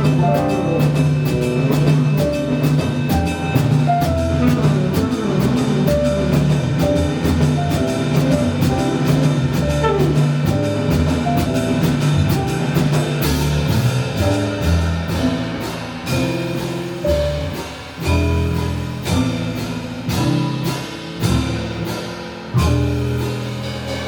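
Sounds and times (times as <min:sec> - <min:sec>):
cymbals struck on a beat: 0:00.0 - 0:24.0
jazz band playing: 0:00.0 - 0:24.0.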